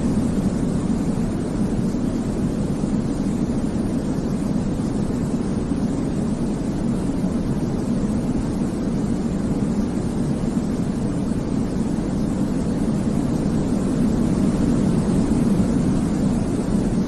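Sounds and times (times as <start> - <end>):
deep white noise: 0.0 - 17.0.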